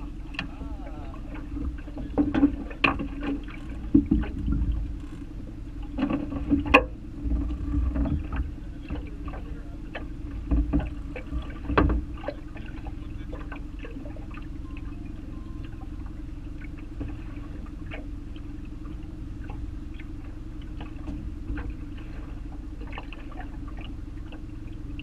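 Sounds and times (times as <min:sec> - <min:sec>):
steady low hum: 0:00.0 - 0:25.0
waves slapping metal boat hull: 0:00.0 - 0:25.0.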